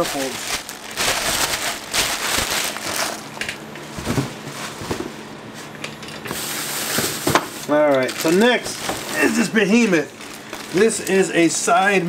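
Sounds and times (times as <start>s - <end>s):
plastic bag crinkling: 0.0s - 5.0s, 6.3s - 12.0s.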